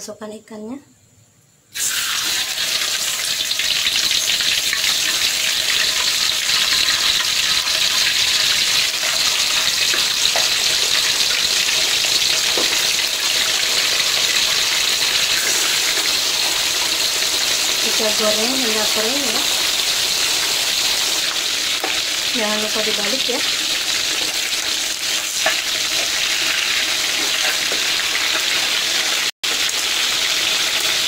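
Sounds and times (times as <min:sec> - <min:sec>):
fish sizzling in hot oil: 0:01.7 - 0:31.0.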